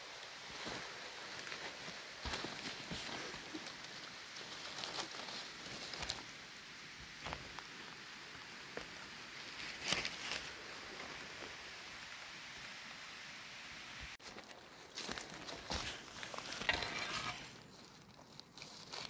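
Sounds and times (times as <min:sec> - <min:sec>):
dry leaves rustling and crackling: 0:00.0 - 0:06.5, 0:07.1 - 0:12.4, 0:14.2 - 0:19.0.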